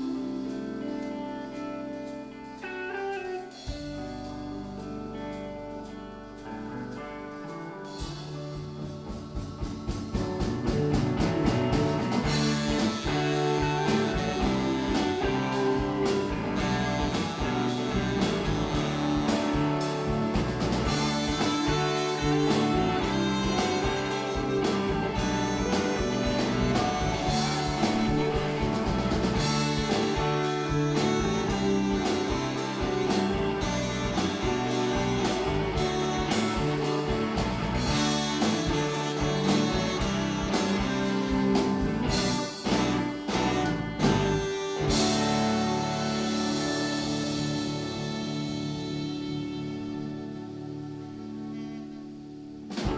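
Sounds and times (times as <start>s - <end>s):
rock blues band playing: 0.0s - 52.9s.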